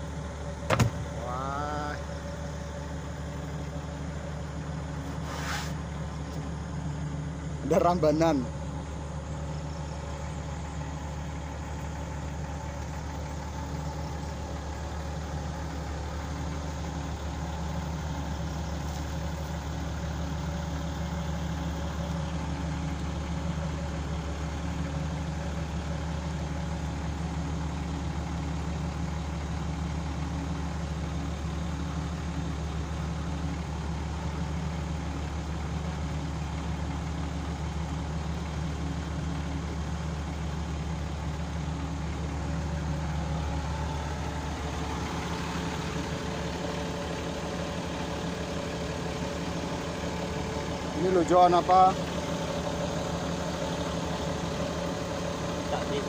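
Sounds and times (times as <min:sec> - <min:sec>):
excavator diesel engine idling: 0:00.0 - 0:56.0.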